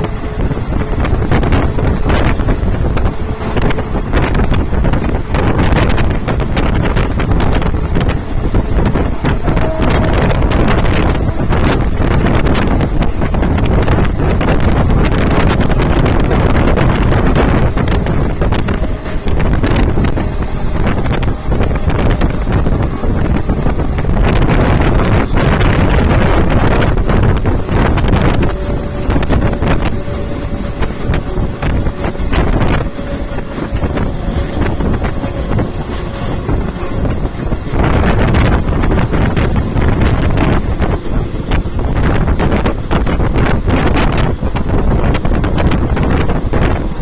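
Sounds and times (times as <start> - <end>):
train rumbling: 0.0 - 47.0
wind buffeting microphone: 0.0 - 47.0.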